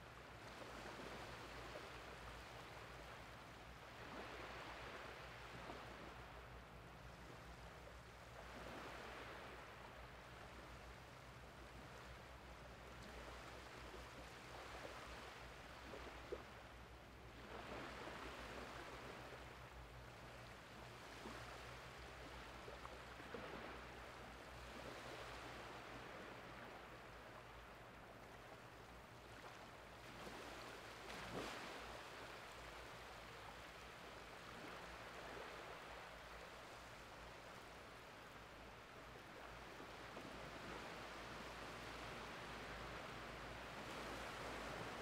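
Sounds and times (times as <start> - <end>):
small waves washing on beach: 0.0 - 45.0.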